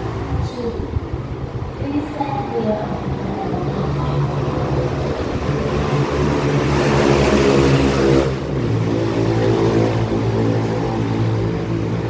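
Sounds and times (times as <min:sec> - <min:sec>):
train humming: 0:00.0 - 0:12.0.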